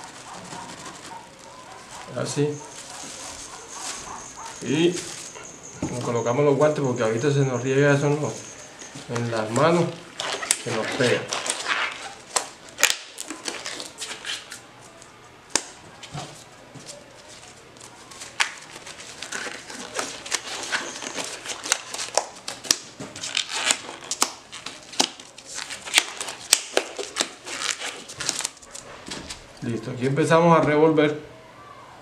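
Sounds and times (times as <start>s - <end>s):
gloves rustling and crinkling: 0.0s - 29.6s.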